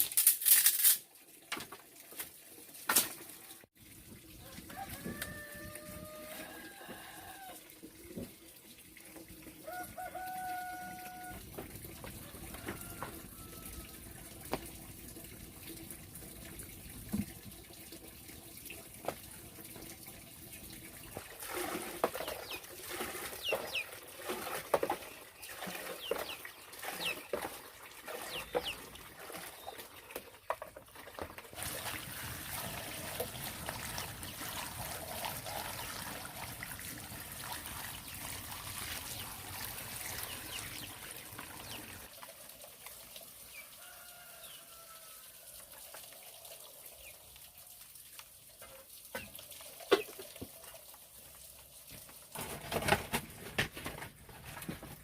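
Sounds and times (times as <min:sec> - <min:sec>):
water trickling: 0:01.1 - 0:52.7.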